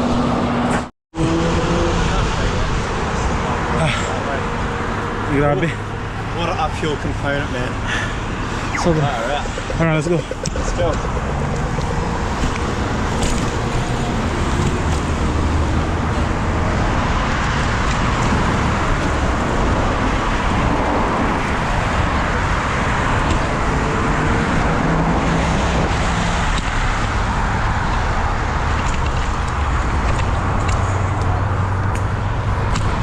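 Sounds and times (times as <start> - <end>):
road traffic rushing: 0.0 - 33.0.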